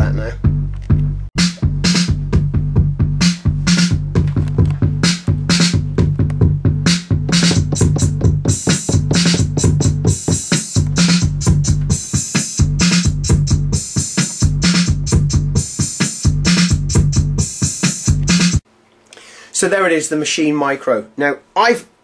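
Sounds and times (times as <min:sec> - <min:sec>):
drum machine beat: 0:00.0 - 0:18.6.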